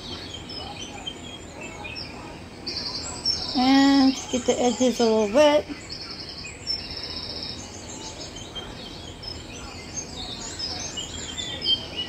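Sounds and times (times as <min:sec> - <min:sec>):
low background hum: 0:00.0 - 0:12.0
small birds chirping and trilling: 0:00.0 - 0:12.0.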